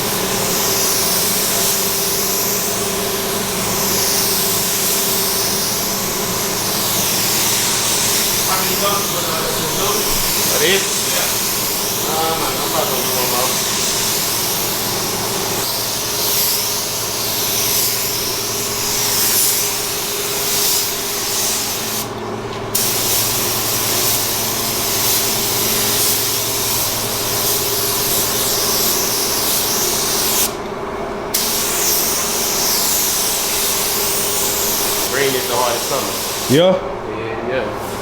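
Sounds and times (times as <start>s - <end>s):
paint spray gun hissing: 0.0s - 30.7s, 31.3s - 36.7s, 37.8s - 38.0s
steady low hum: 0.0s - 38.0s.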